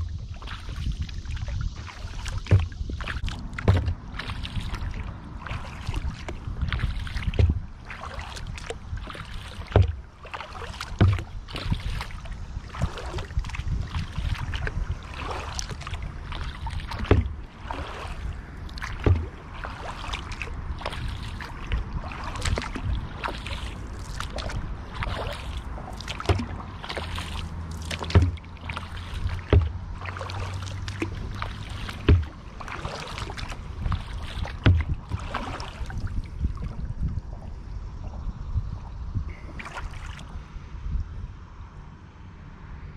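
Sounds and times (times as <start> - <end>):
paddle splashing in water: 0.0 - 38.2, 39.3 - 40.4
water rushing along hull: 0.0 - 41.0.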